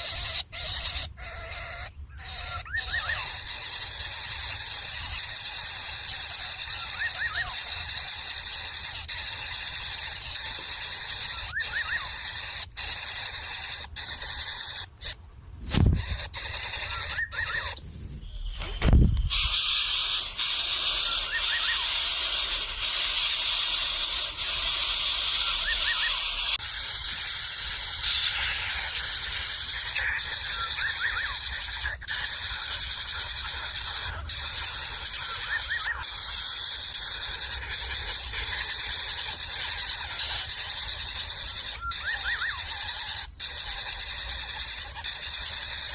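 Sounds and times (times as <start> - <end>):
high-pitched outdoor hiss: 0.0 - 45.9.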